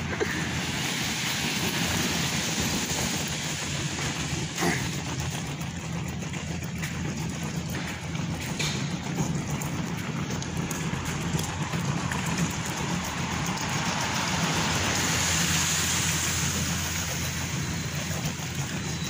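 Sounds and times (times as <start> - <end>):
road traffic hiss: 0.0 - 19.0.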